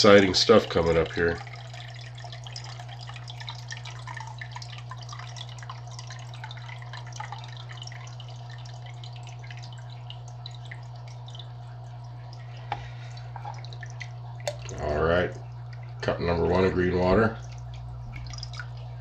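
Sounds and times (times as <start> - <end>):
steady low hum: 0.0 - 19.0
water dripping into a cup: 0.0 - 19.0.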